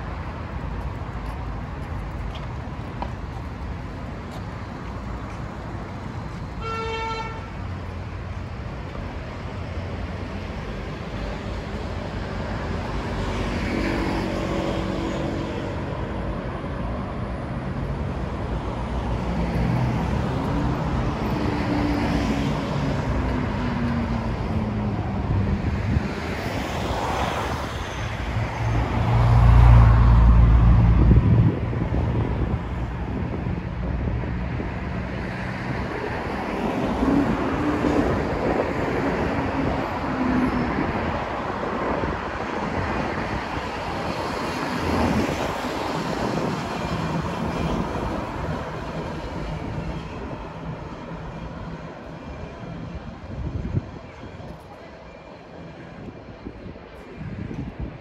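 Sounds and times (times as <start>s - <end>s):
cars and buses passing: 0.0s - 58.0s.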